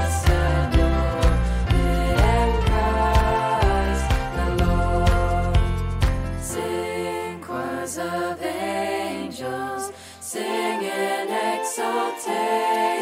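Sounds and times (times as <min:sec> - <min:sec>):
voices singing in harmony: 0:00.0 - 0:05.7, 0:06.4 - 0:13.0.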